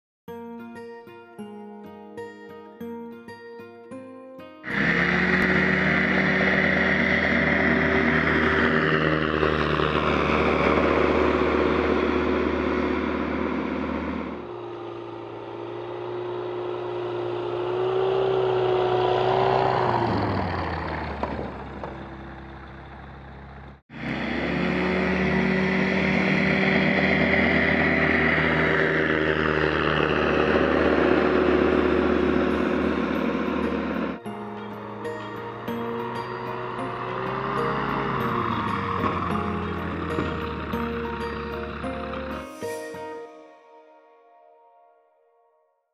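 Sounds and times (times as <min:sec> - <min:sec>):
light aircraft engine and propeller: 0:04.6 - 0:42.7.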